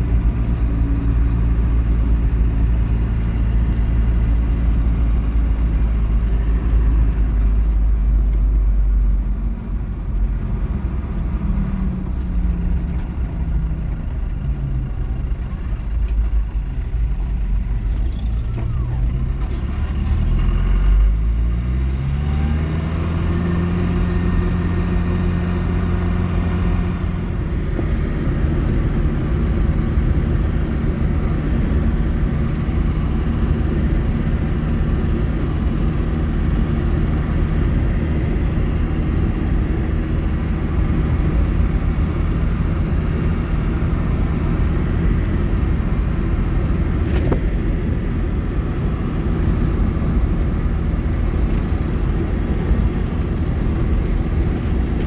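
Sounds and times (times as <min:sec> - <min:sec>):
low road rumble: 0:00.0 - 0:55.0
vehicle engine while driving: 0:00.0 - 0:55.0.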